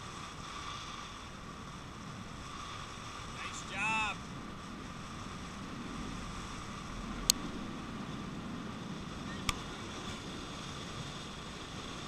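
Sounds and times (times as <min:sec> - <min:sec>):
bicycle wind and tyre noise: 0:00.0 - 0:12.0.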